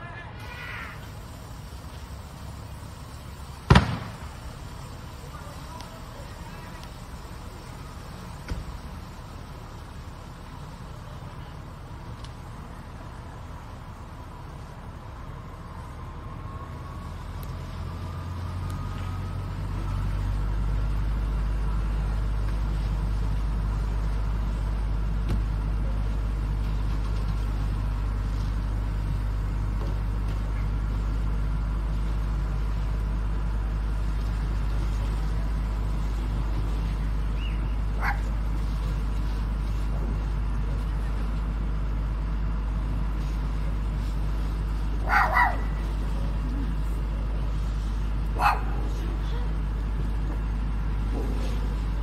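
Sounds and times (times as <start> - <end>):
fire engine pump droning: 0.0 - 52.0.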